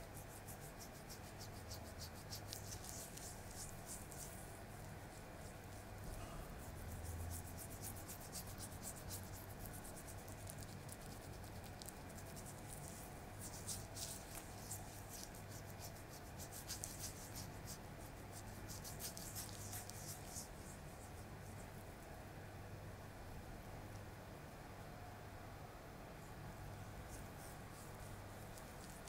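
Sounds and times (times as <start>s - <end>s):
scratchy strokes on skin: 0.0s - 21.8s, 27.0s - 29.0s.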